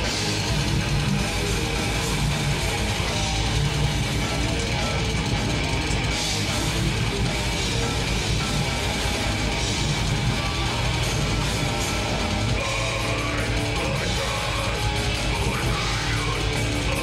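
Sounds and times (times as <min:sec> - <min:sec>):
bass guitar: 0:00.0 - 0:17.0
distorted guitars: 0:00.0 - 0:17.0
drum kit: 0:00.0 - 0:17.0.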